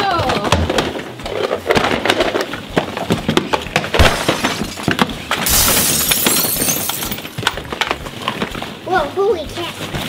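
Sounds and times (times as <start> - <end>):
plastic balls clattering: 0.0 - 8.8.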